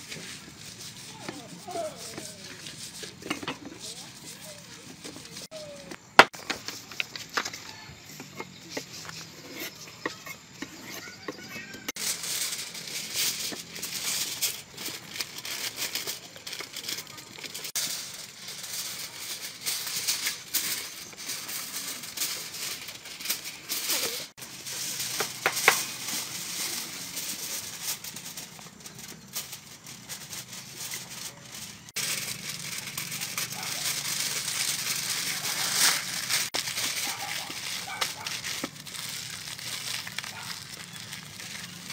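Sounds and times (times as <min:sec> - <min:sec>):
aluminium foil crinkling: 0:00.0 - 0:41.9
plastic glove rustling: 0:00.0 - 0:41.9.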